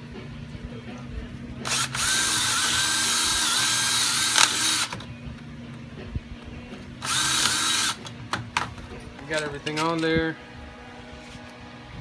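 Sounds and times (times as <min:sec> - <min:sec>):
electric drill whining: 0:00.7 - 0:12.0.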